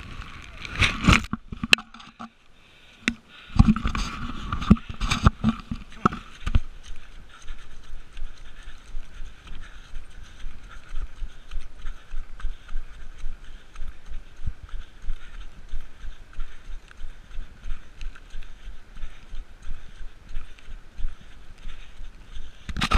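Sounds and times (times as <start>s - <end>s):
running footsteps on muddy grass: 2.8s - 22.9s.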